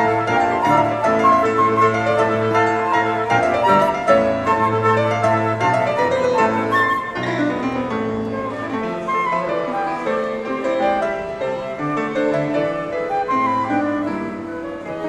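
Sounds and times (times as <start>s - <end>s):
flutes and clarinet melody: 0.0s - 15.0s
piano chords: 0.0s - 15.0s.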